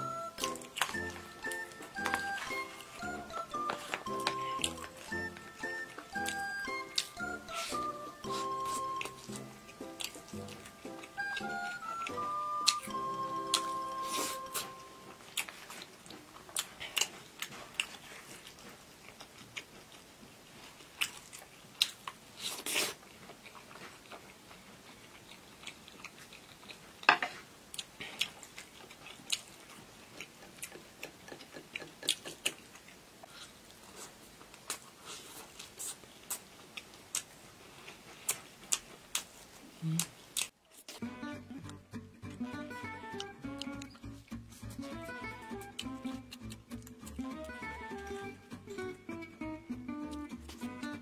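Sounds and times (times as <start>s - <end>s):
person chewing food: 0.0s - 41.0s, 41.6s - 48.9s.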